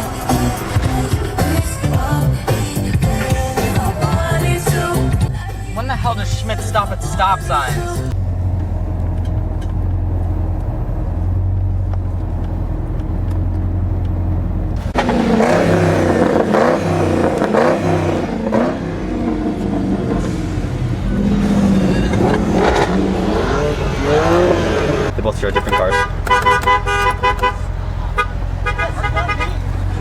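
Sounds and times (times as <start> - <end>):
car engine and road noise: 0.0 - 30.0
engine revving: 0.0 - 30.0.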